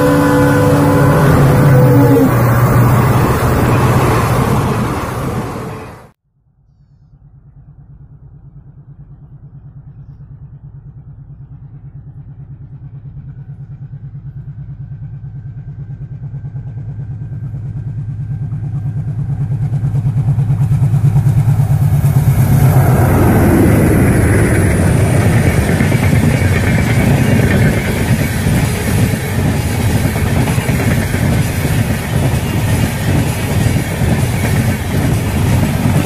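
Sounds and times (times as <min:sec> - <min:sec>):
diesel locomotive engine: 0:00.0 - 0:06.2, 0:09.0 - 0:36.0.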